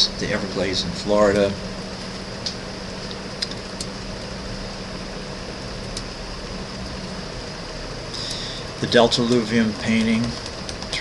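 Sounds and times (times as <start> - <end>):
room noise hum and hiss: 0.0 - 11.0.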